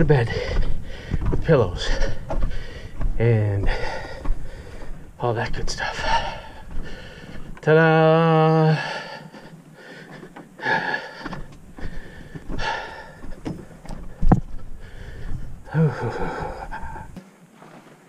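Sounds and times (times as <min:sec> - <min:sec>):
person breathing hard: 0:00.3 - 0:05.2, 0:05.8 - 0:07.6, 0:08.5 - 0:17.2.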